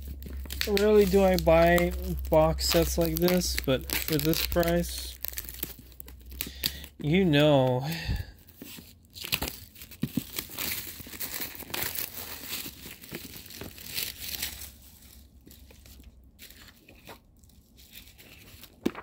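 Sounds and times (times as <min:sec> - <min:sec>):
packaging tearing and crinkling: 0:00.0 - 0:19.0
plastic rustling: 0:00.0 - 0:19.0.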